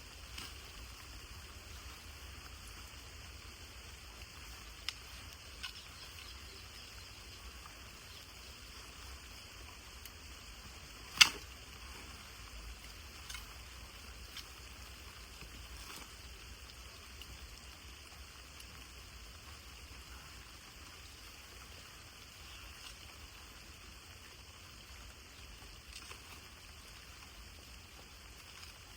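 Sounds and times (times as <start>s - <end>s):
light rain hissing: 0.0s - 28.9s.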